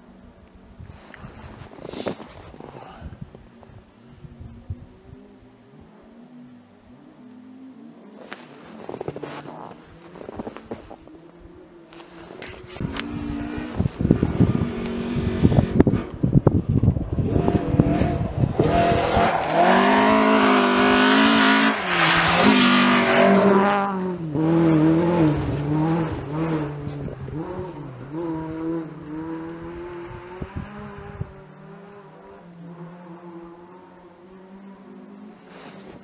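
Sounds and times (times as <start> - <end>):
rally car engine passing: 5.0 - 36.0.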